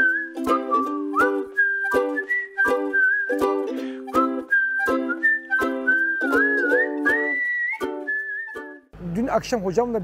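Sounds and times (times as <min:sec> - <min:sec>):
plucked strings strumming: 0:00.0 - 0:08.9
whistled melody: 0:00.0 - 0:08.9.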